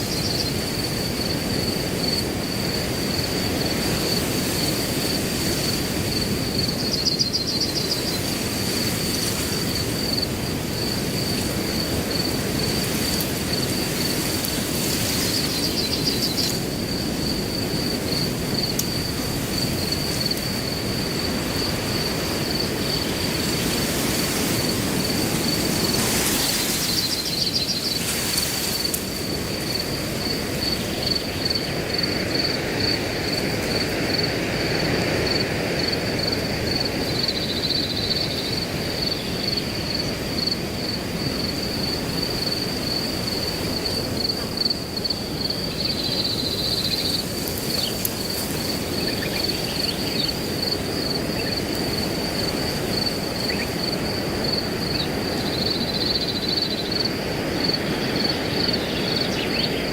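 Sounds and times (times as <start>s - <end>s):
cricket chirping: 0.0s - 59.9s
wind blowing through grass: 0.0s - 59.9s.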